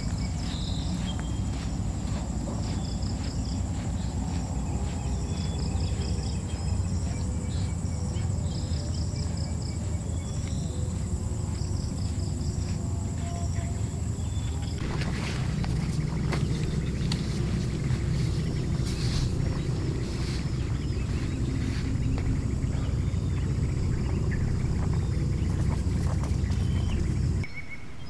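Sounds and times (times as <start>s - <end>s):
insects chirping rapidly: 0.0s - 28.0s
insects droning: 0.0s - 28.0s
low rumble: 0.0s - 28.0s.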